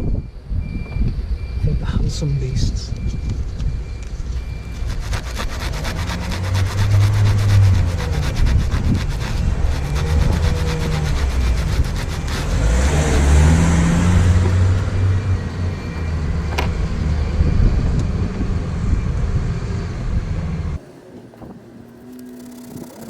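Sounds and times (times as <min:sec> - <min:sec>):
diesel lorry engine rumbling: 0:00.0 - 0:23.0.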